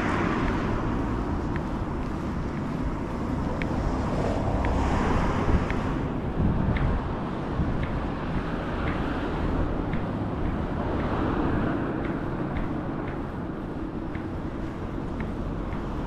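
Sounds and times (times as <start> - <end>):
cars driving past: 0.0 - 16.0
faint light ticks: 0.4 - 16.0.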